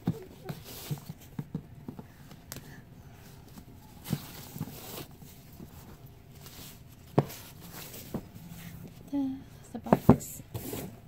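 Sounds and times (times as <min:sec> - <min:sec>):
soft rustling: 0:00.0 - 0:11.0.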